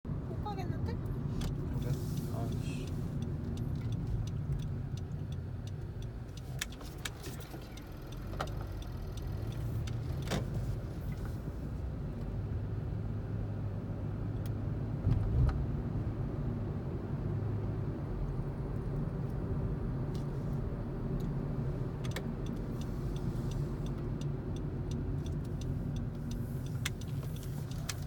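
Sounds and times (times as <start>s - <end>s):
car cabin low rumble: 0.1s - 28.0s.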